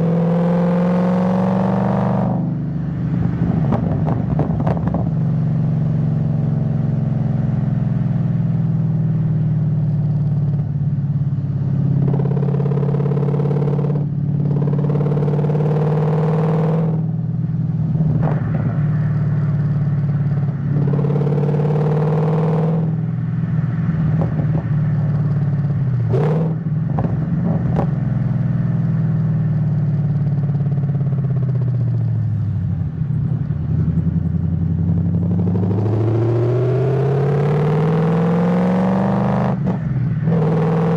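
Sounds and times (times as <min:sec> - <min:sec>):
car engine revving: 0:00.0 - 0:08.6, 0:09.5 - 0:32.3, 0:33.7 - 0:40.9.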